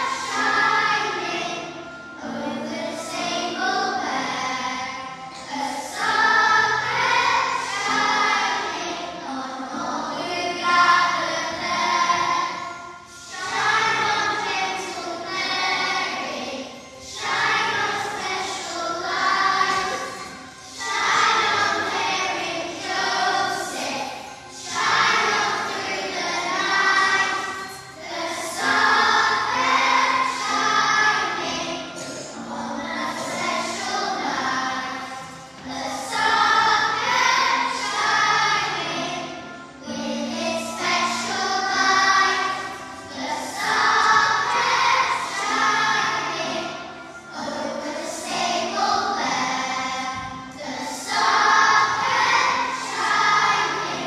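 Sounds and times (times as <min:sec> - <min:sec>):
instrumental accompaniment: 0:00.0 - 0:53.6
children's choir singing: 0:00.0 - 0:54.0.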